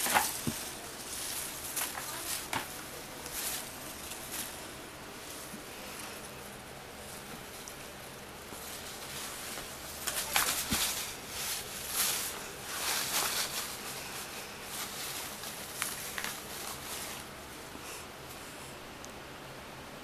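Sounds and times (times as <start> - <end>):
cat rustling a fabric toy: 0.0 - 18.4.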